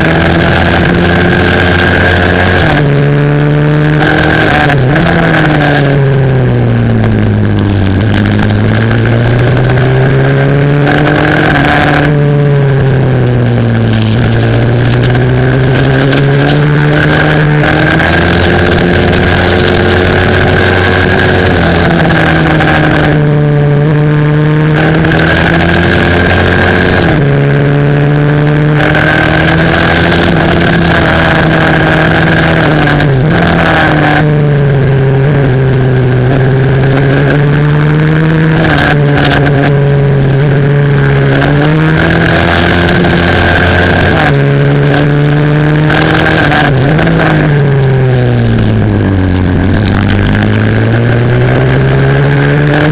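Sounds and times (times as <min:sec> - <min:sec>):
motorbike engine racing: 0:00.0 - 0:52.9.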